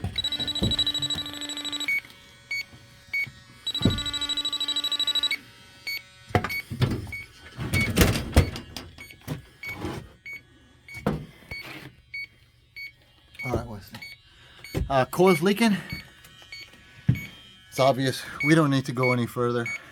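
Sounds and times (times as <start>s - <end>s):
leak detector beeping: 0.0s - 19.9s
rapidly pulsing alarm: 0.0s - 19.9s.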